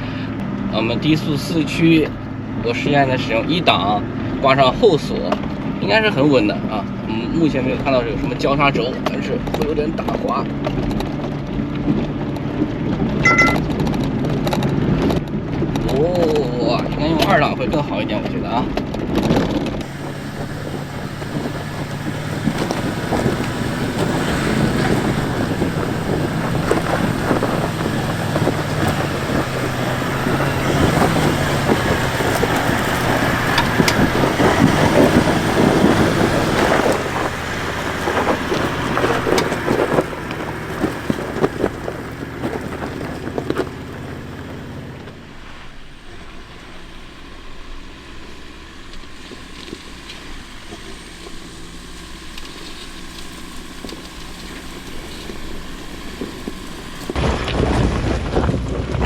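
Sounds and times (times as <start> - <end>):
engine labouring uphill: 0.0 - 59.0
tyres crunching over ground: 2.8 - 59.0.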